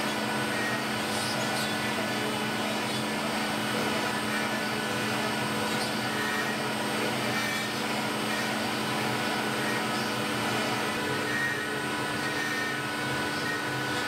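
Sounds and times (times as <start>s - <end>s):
cnc router spindle whine: 0.0s - 14.0s
engraving bit cutting wood: 0.0s - 14.0s.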